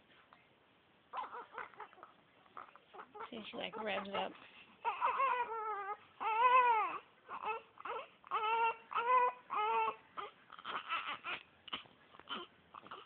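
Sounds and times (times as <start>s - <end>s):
infant crying: 1.1s - 13.0s
infant whimpering: 1.1s - 13.0s.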